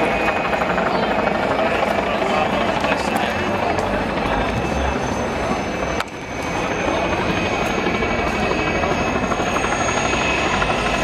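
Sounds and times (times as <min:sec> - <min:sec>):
helicopter rotor and engine: 0:00.0 - 0:11.0.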